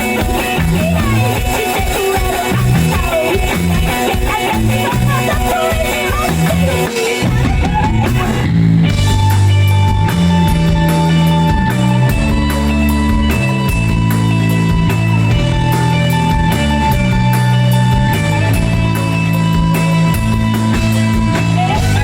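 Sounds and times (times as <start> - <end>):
long held bass notes: 0.0 - 1.6, 2.3 - 22.0
rock band playing: 0.0 - 22.0.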